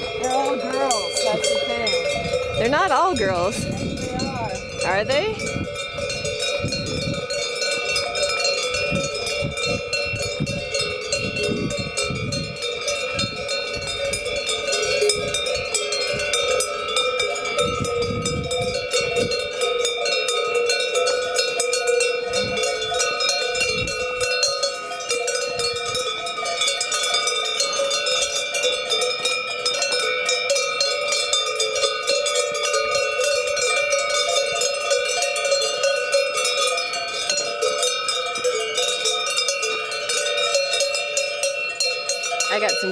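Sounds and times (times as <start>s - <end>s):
cowbells jangling: 0.0s - 42.9s.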